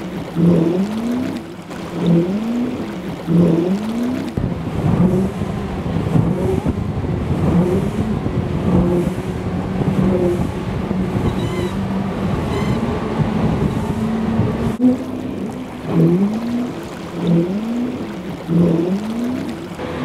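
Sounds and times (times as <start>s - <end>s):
outboard motor running: 0.0s - 20.0s
water rushing past hull: 0.0s - 20.0s.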